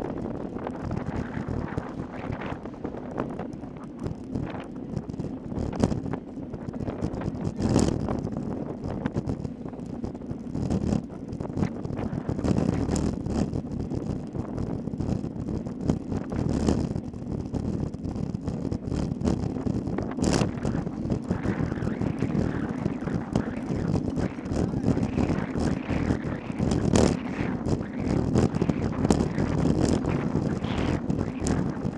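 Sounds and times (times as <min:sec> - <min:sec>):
tyres rumbling on asphalt: 0:00.0 - 0:31.9
wind buffeting microphone: 0:00.0 - 0:31.9
bike clicks and rattles: 0:00.2 - 0:17.0, 0:17.7 - 0:31.9.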